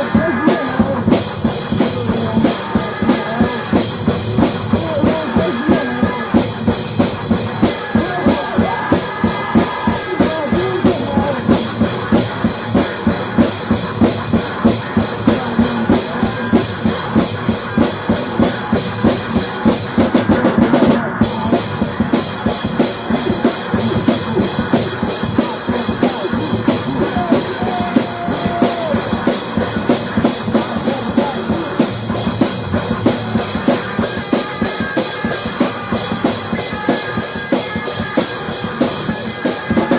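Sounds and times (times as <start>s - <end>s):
drum kit beat: 0.0s - 39.9s
instrumental rock music: 0.0s - 39.9s.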